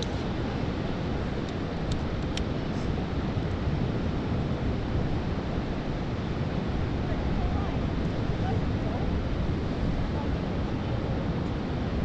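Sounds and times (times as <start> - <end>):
surf washing: 0.0 - 12.0
wind noise on microphone: 0.0 - 12.0.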